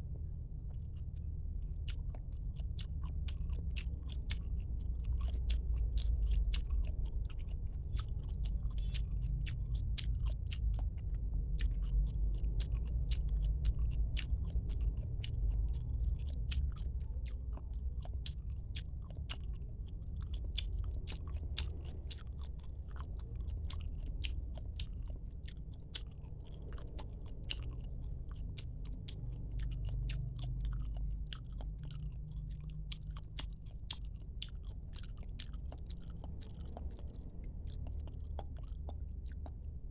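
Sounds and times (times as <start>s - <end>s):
steady low rumble: 0.0s - 39.9s
wet chewing mouth clicks: 0.6s - 39.9s.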